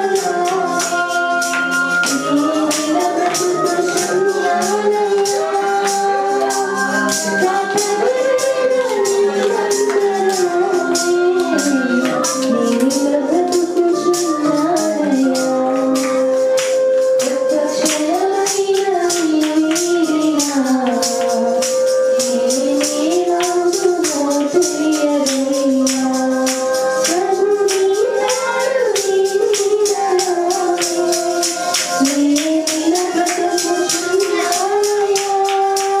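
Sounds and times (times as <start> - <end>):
tambourine shaken: 0.0 - 36.0
voices singing a song: 0.0 - 36.0.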